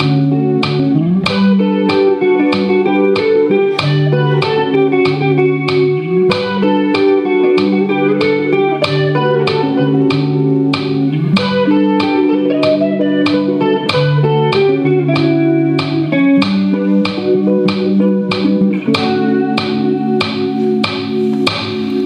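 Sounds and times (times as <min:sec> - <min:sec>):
bass guitar: 0:00.0 - 0:22.0
drums steady beat: 0:00.0 - 0:22.0
electric guitars: 0:00.0 - 0:22.0.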